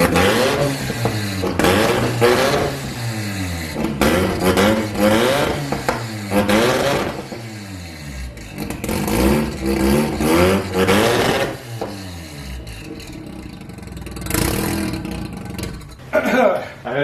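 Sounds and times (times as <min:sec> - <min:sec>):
rotary engine revving: 0:00.0 - 0:16.0.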